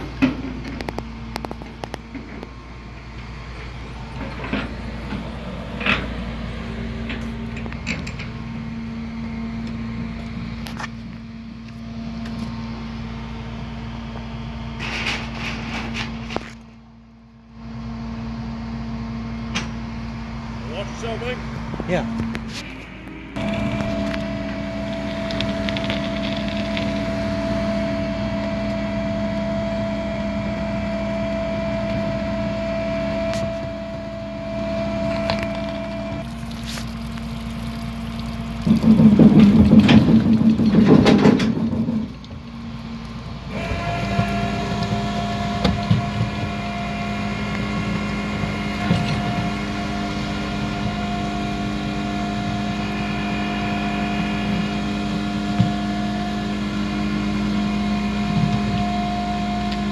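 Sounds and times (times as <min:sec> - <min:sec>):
vehicle engine humming: 0:00.0 - 0:59.9.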